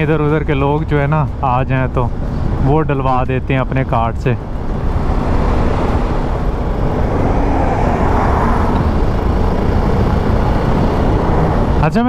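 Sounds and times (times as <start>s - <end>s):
faint motorcycle engine hum: 0.0s - 12.0s
wind and road noise: 0.0s - 12.0s.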